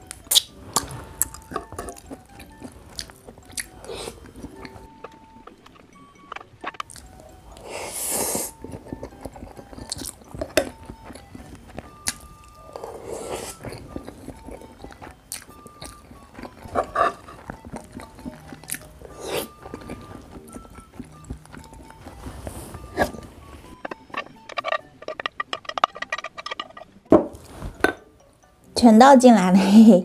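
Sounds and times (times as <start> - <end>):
chewing and biting food: 0.0 - 5.2, 6.6 - 27.5
background music: 0.0 - 30.0.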